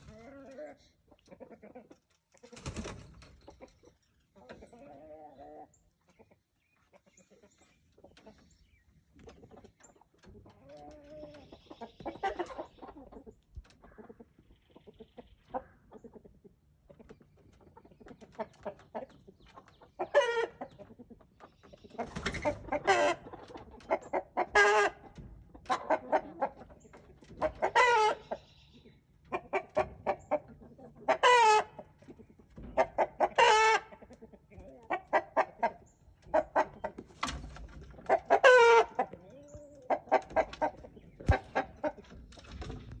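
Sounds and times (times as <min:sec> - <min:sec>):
chickens clucking and squawking: 0:00.0 - 0:43.0.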